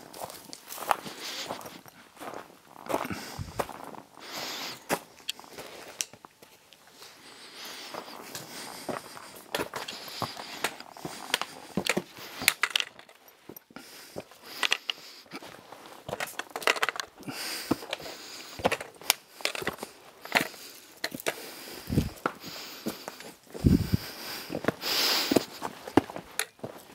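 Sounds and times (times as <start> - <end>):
boots crunching on forest trail: 0.0 - 12.5, 17.2 - 26.9.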